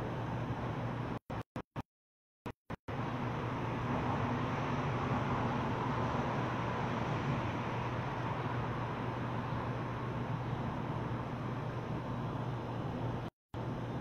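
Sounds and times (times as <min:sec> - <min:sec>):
constant low hum: 0:00.0 - 0:01.4, 0:02.9 - 0:14.0
outdoor rumble and hiss: 0:00.0 - 0:01.4, 0:02.9 - 0:14.0.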